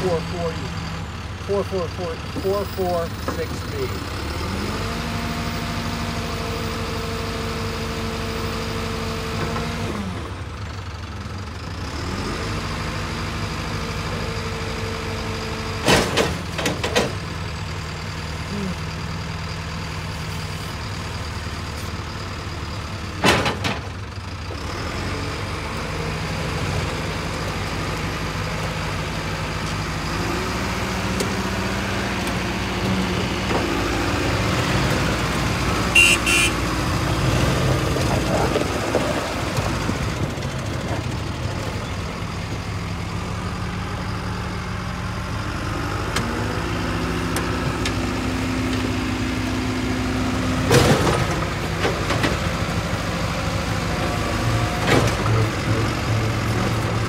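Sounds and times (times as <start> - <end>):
backhoe diesel engine: 0.0 - 57.0.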